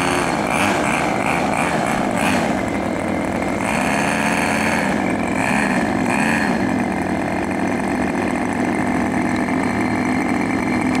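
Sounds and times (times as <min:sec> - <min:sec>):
model plane engines running: 0:00.0 - 0:11.0.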